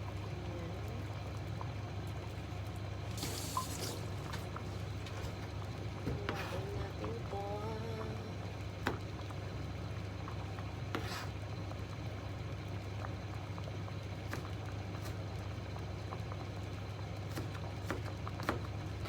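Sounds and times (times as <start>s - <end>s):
pot simmering with small pops: 0.0s - 7.3s, 8.0s - 19.0s
steady low hum: 0.0s - 19.0s.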